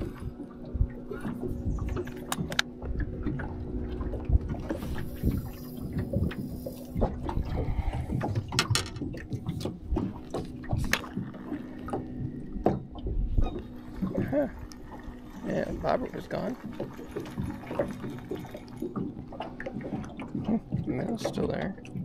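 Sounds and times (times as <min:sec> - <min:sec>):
low steady hum: 0:00.0 - 0:22.0
waves lapping against boat hull: 0:00.0 - 0:22.0.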